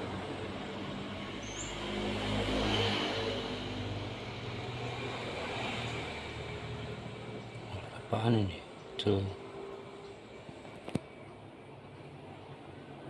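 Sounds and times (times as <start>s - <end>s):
distant vehicle engine passing: 0.0s - 10.6s.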